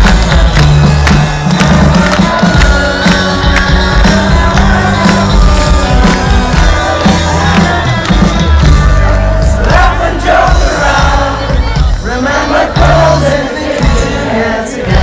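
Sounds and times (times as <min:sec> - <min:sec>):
crowd shouting and singing: 0:00.0 - 0:15.0
drum beat: 0:00.0 - 0:15.0
rock band playing live: 0:00.0 - 0:15.0.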